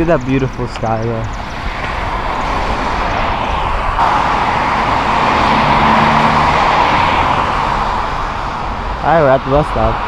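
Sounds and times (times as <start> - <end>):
vehicle passing on street: 0.0 - 10.0.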